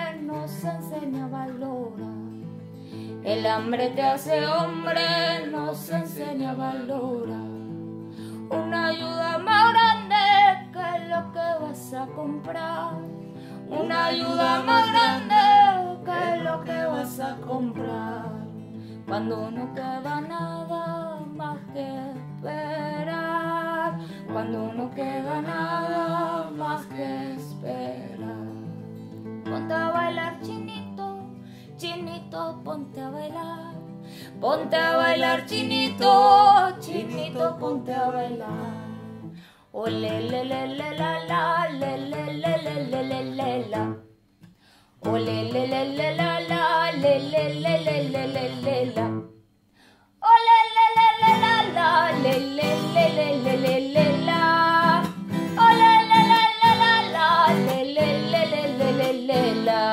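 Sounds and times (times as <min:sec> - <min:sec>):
woman and man singing: 0:00.0 - 0:02.4, 0:03.1 - 0:28.8, 0:29.4 - 0:44.0, 0:45.0 - 0:49.3, 0:50.2 - 0:59.9
acoustic guitar: 0:00.0 - 0:59.9.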